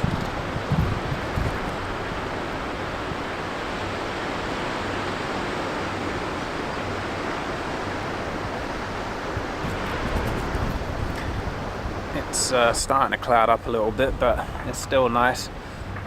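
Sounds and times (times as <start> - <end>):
surf on a pebble beach: 0.0 - 16.0.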